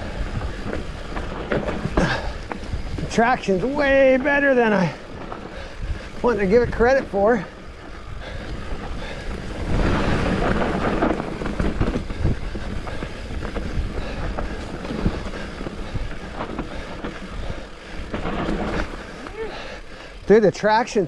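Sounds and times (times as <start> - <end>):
bike rattling and knocking: 0.0 - 21.0
bike tyres crunching on dirt: 0.0 - 21.0.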